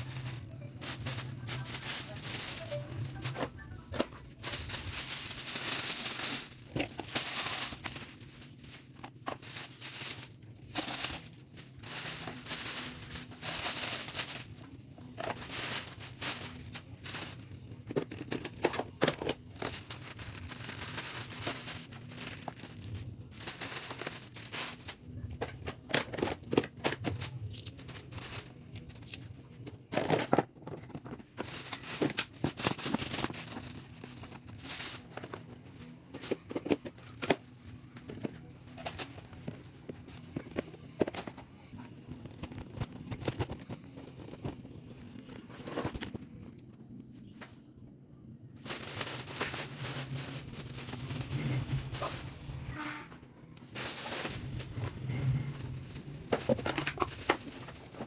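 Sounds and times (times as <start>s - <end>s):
packaging rustling and crinkling: 0.0s - 46.7s, 48.6s - 52.7s, 53.7s - 58.0s.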